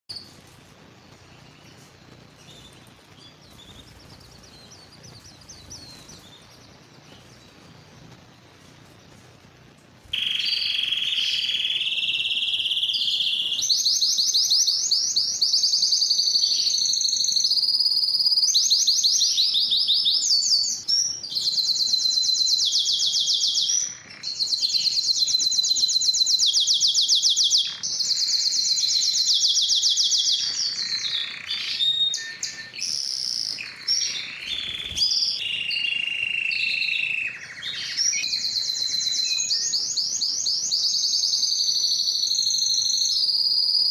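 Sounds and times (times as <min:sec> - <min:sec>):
canary singing trills: 0:00.1 - 0:43.9.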